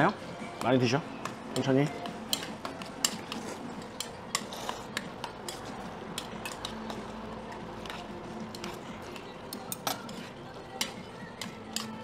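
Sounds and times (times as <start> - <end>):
utensils clinking on metal bowls: 0.0 - 12.0.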